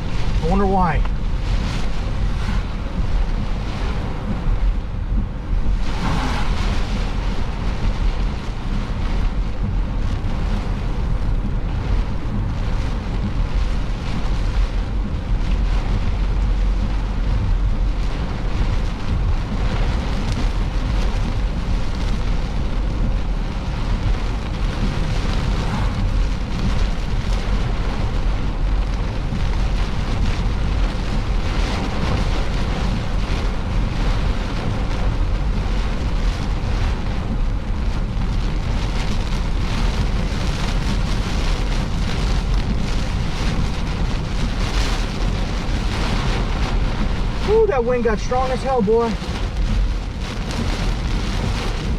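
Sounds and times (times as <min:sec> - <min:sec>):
storm wind buffeting microphone: 0:00.0 - 0:51.9.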